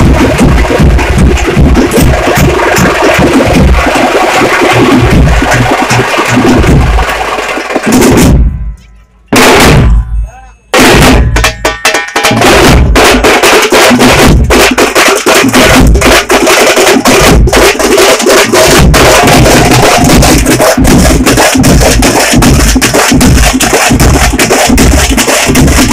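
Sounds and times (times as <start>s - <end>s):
frame drums beaten with sticks: 0.0s - 25.9s.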